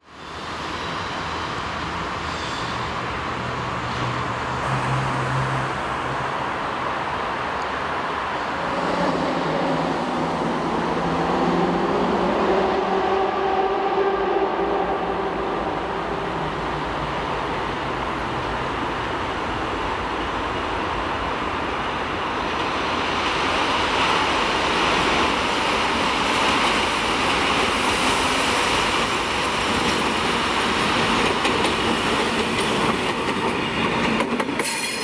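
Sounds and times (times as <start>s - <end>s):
diesel locomotive engine: 0.0s - 35.0s.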